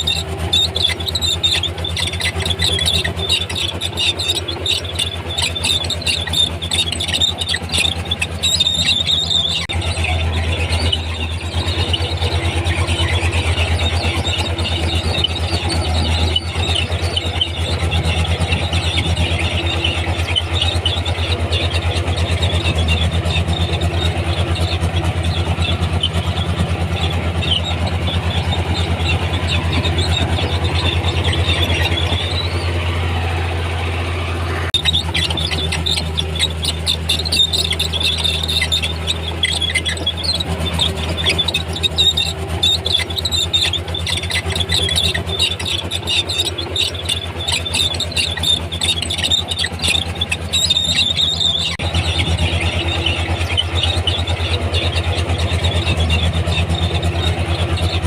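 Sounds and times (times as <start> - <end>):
bulldozer diesel engine running: 0.0 - 58.0
steel tracks squealing: 0.0 - 58.0.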